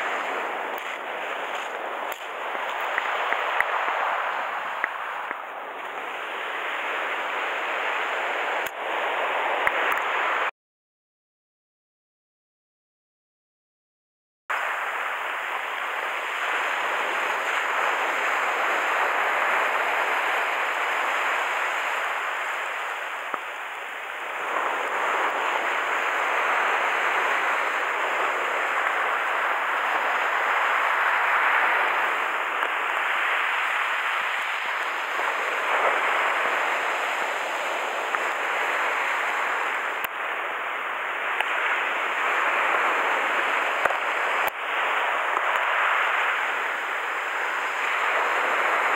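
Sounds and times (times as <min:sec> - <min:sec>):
surf breaking on gravel beach: 0:00.0 - 0:10.5, 0:14.5 - 0:48.9.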